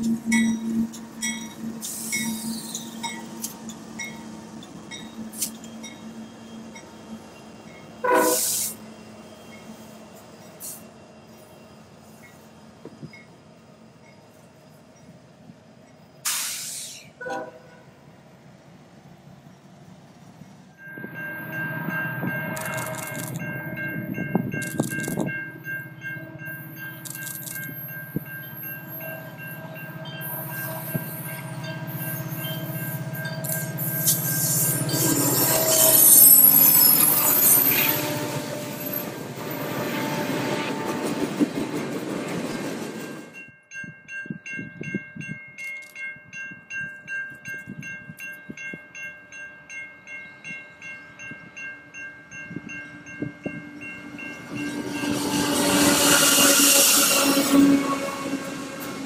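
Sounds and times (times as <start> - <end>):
railroad crossing bell ringing: 0.0 - 15.2, 20.7 - 40.9, 42.9 - 59.0
train wheels on rails: 0.0 - 43.5, 52.4 - 59.0
distant train approaching: 0.0 - 59.0
freight train passing: 0.0 - 59.0.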